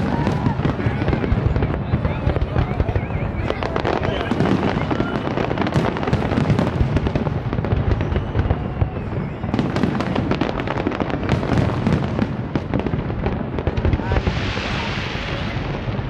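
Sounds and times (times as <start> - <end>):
low rumble of detonations: 0.0 - 16.0.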